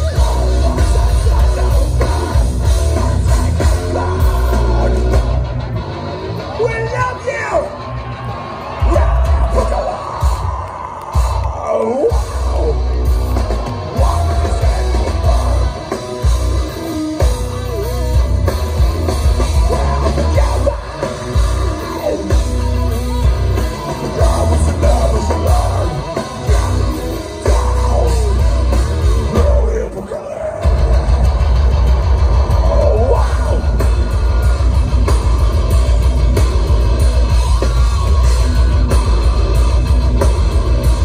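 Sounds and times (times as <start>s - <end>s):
live heavy metal band: 0.0s - 41.0s.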